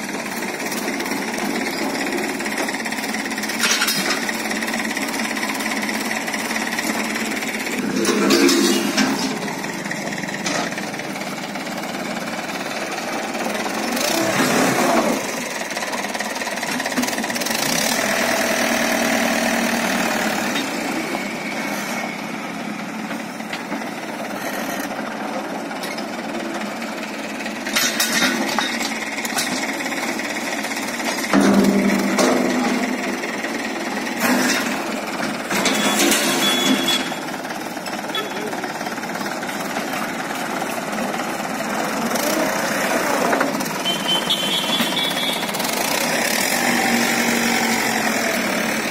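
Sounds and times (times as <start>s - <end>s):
diesel tractor engine clattering: 0.0s - 48.9s.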